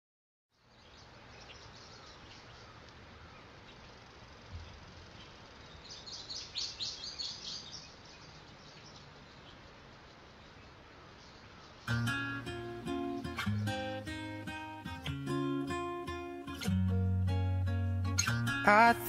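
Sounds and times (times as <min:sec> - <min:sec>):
small birds chirping: 0:00.5 - 0:17.0, 0:18.1 - 0:18.9
background hiss: 0:00.6 - 0:19.0.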